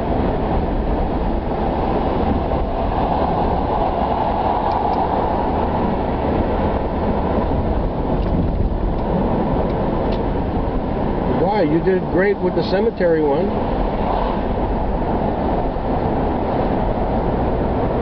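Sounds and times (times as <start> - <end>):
car cabin road rumble: 0.0 - 18.0.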